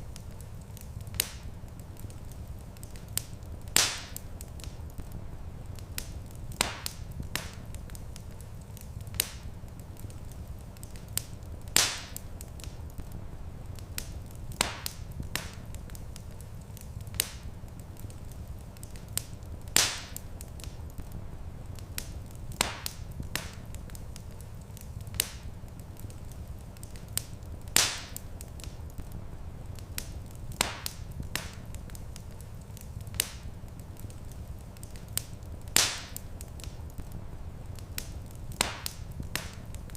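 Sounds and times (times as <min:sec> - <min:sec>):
low rumble of fire: 0:00.0 - 0:39.9
wood fire crackling and popping: 0:00.0 - 0:39.9.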